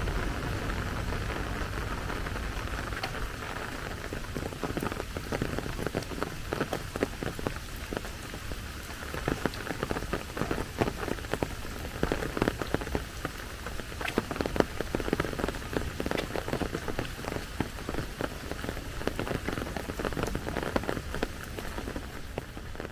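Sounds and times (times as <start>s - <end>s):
rain falling: 0.0s - 22.9s
sharp raindrop impacts: 0.0s - 22.9s.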